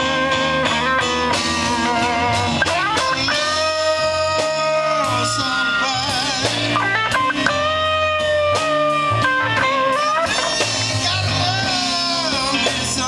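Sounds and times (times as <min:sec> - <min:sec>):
electric guitar solo: 0:00.0 - 0:12.6
blues band playing: 0:00.0 - 0:13.0.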